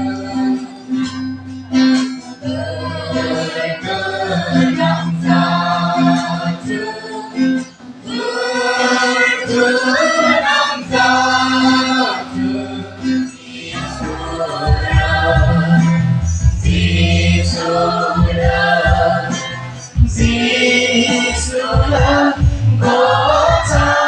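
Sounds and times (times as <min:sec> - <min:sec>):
choir singing: 0:02.0 - 0:24.0.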